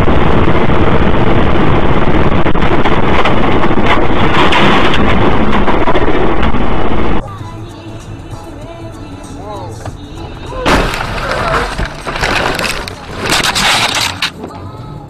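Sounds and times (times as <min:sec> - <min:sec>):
distorted road and wind noise: 0:00.0 - 0:15.0.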